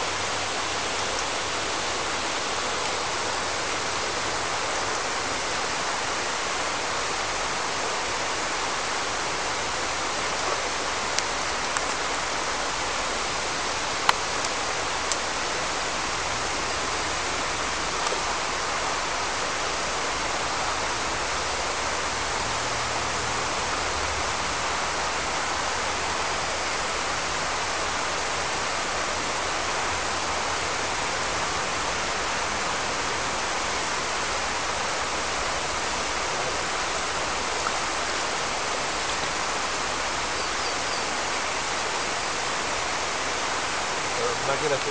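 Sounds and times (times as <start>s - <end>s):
river flowing over stones: 0.0s - 44.9s.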